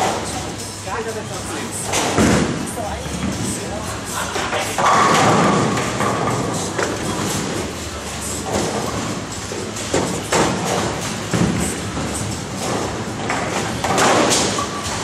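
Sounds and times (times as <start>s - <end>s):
bowling balls rolling: 1.6s - 15.0s.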